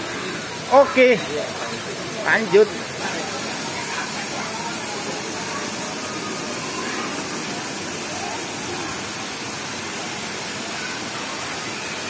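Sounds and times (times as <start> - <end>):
faint voices: 0.0 - 12.0
water rushing down slides: 0.0 - 12.0.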